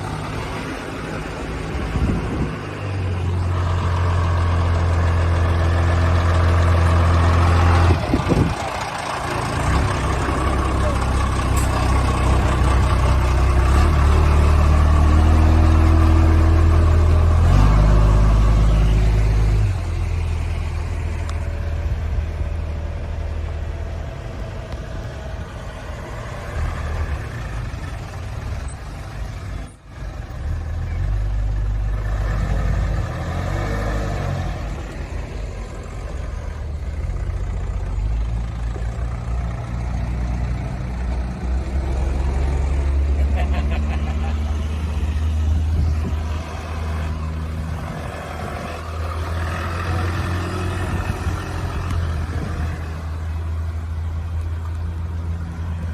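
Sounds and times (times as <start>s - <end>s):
engine and road noise: 0.0s - 55.9s
heavy engine rumble: 0.0s - 55.9s.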